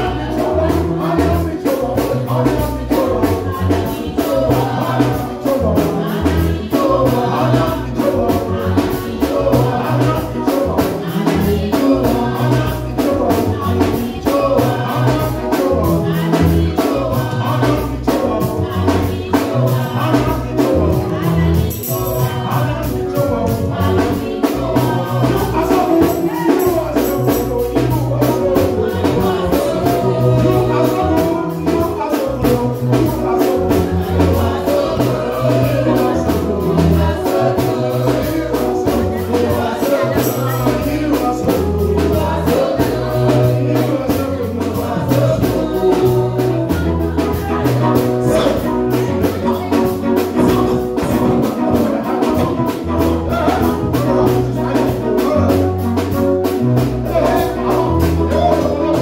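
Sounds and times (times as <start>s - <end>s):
fast steady percussion: 0.0s - 59.0s
group singing gospel: 0.0s - 59.0s
moving bass line: 0.0s - 59.0s.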